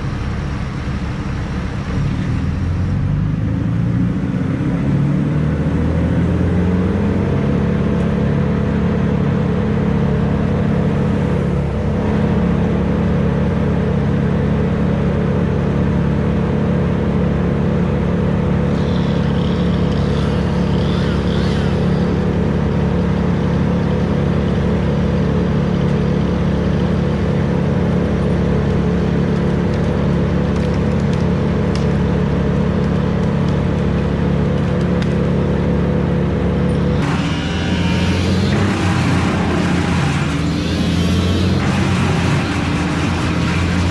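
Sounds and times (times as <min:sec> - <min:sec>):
large engine revving: 0:00.0 - 0:29.5, 0:32.5 - 0:43.9.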